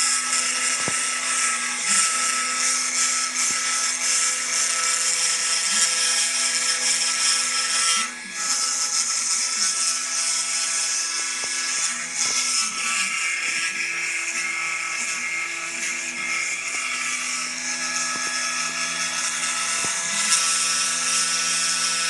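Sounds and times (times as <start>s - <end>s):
spindle motor whining: 0.0s - 22.0s.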